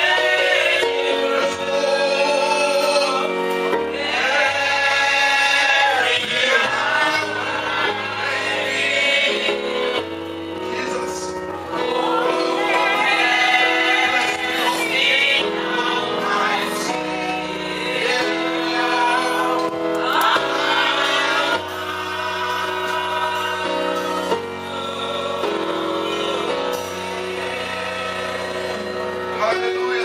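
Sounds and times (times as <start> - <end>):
gospel worship singing: 0.0 - 30.0.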